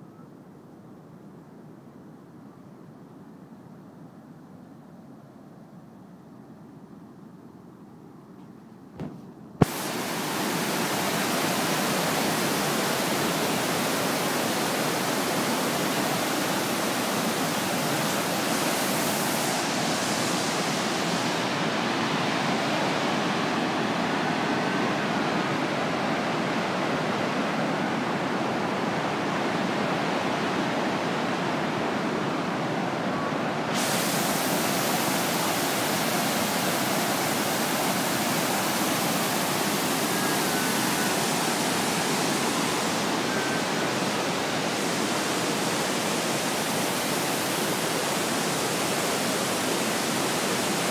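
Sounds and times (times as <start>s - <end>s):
water rushing over a weir: 9.6s - 50.9s.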